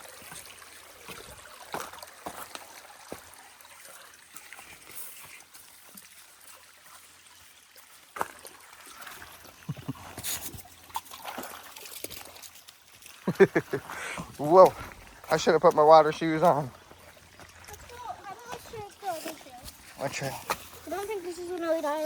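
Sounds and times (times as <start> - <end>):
footsteps splashing in water: 0.0 - 22.0
stream trickling over rocks: 0.0 - 22.0.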